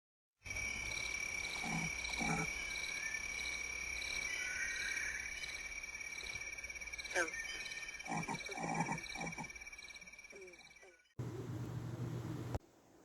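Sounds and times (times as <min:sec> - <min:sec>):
steady high animal trill: 0:00.5 - 0:11.1.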